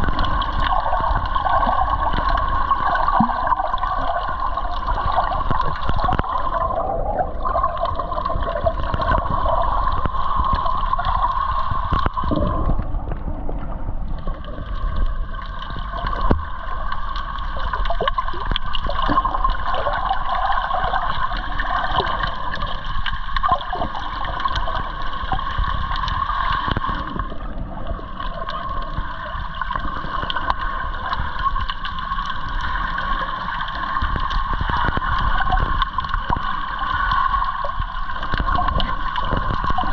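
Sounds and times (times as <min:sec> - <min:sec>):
underwater gurgling water: 0:00.0 - 0:39.9.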